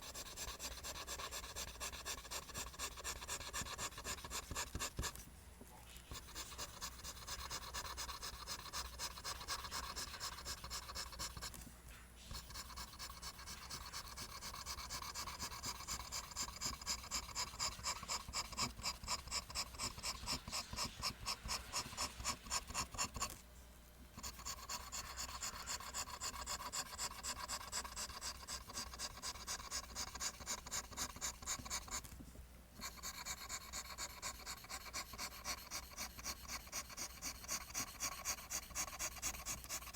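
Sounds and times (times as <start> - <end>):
pencil scratching on paper: 0.0 - 5.2, 6.0 - 11.7, 12.3 - 23.4, 24.2 - 32.2, 32.8 - 39.9.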